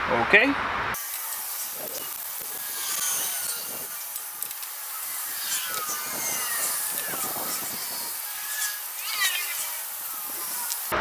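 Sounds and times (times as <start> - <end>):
tools scraping and rubbing metal: 1.0 - 11.0.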